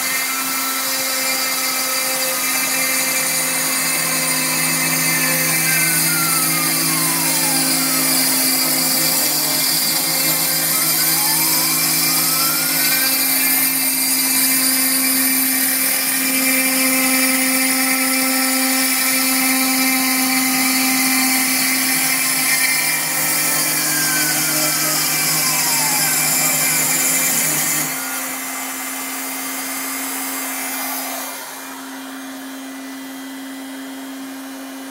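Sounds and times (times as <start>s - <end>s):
stepper motors whining: 0.0s - 34.6s
cutting spindle running: 0.0s - 34.9s.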